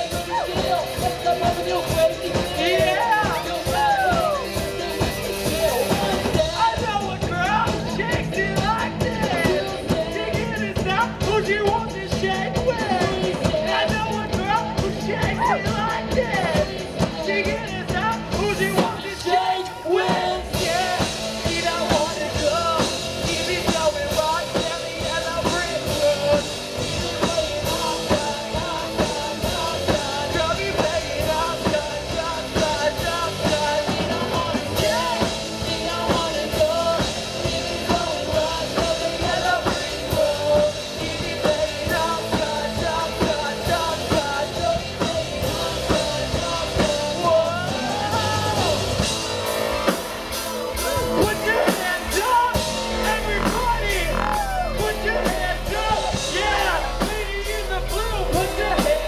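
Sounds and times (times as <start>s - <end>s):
drums: 0.0s - 59.0s
person singing: 0.0s - 59.0s.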